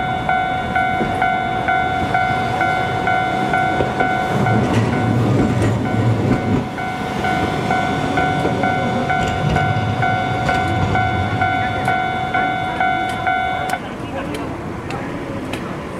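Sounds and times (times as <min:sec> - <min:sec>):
crossing alarm bell ringing: 0:00.0 - 0:13.8
streetcar rumbling: 0:00.0 - 0:15.9.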